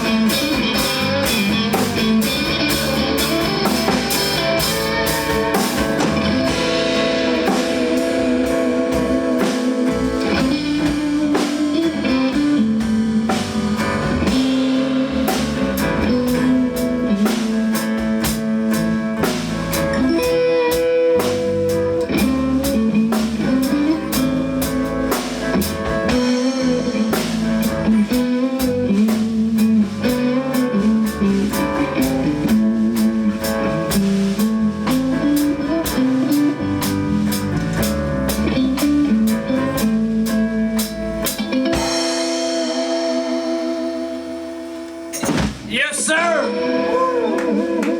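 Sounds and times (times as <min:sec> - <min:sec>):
drum kit beat: 0:00.0 - 0:47.9
guitars playing: 0:00.0 - 0:47.9.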